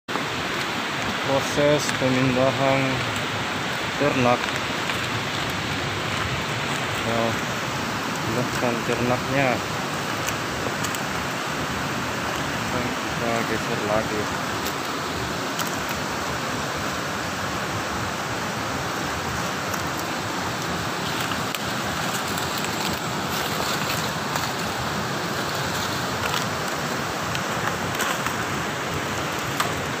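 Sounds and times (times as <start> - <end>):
river water rushing: 0.1 - 30.0.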